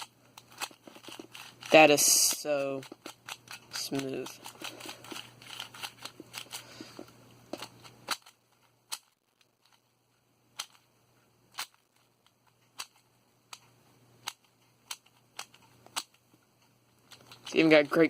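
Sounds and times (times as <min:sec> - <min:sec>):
puzzle cube clicking: 0:00.0 - 0:09.9, 0:10.5 - 0:10.8, 0:11.5 - 0:16.2, 0:17.1 - 0:18.0.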